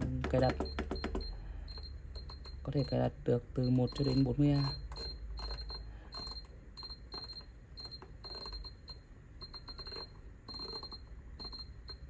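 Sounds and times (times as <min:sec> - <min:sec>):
electronic load beeping: 0:00.0 - 0:12.0.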